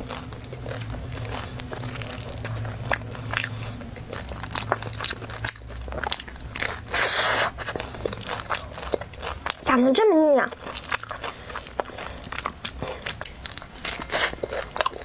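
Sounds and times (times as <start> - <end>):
chewing: 0.0 - 15.0
flaky pastry crackling: 0.0 - 15.0.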